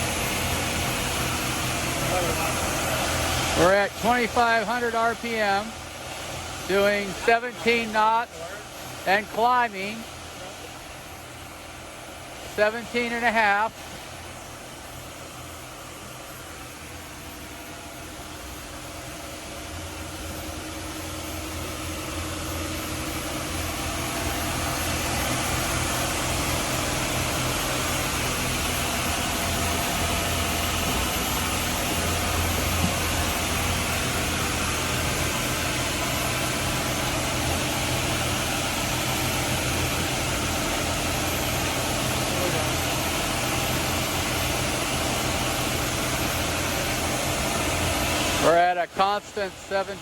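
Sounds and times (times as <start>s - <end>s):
boat diesel engines droning: 0.0s - 50.0s.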